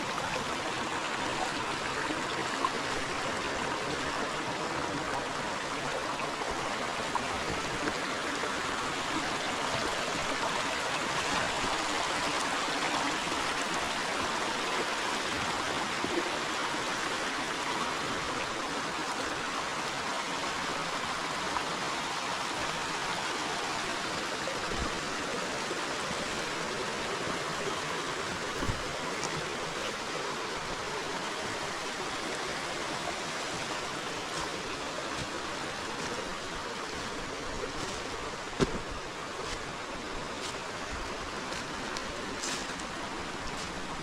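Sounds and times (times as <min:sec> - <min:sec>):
river water rushing: 0:00.0 - 0:44.0.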